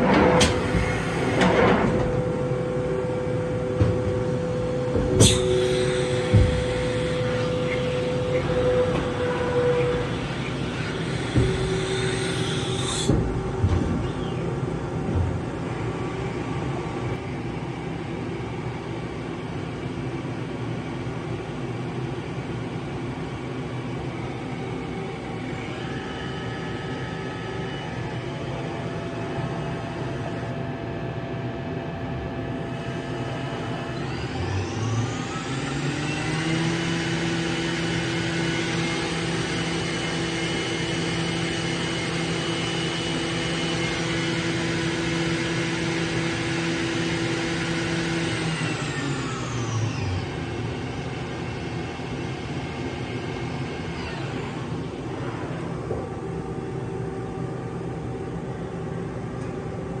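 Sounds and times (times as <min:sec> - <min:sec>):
machine spindle whine: 0:00.0 - 0:59.4
constant machine hum: 0:00.0 - 1:00.0.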